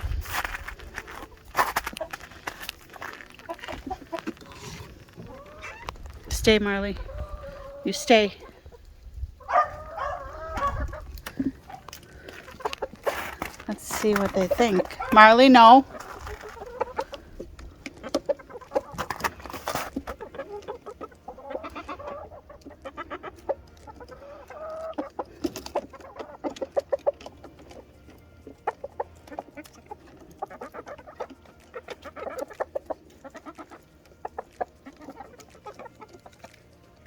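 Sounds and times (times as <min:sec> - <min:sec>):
hens clucking: 0:00.0 - 0:37.0.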